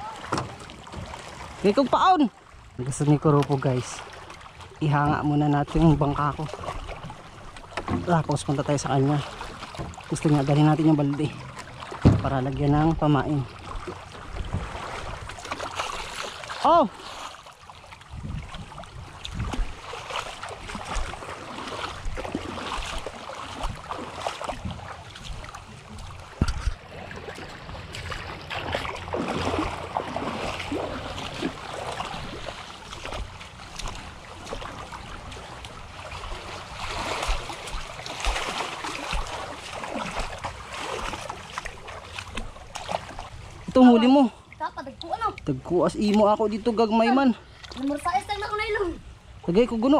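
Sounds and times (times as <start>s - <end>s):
small waves lapping: 0.0s - 49.9s
footsteps splashing through water: 3.0s - 44.2s, 46.0s - 48.6s.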